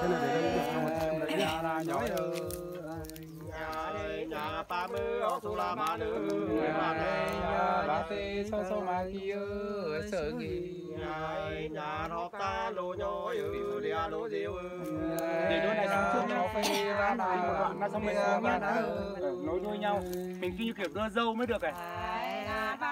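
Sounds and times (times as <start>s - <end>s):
man singing: 0.0s - 22.9s.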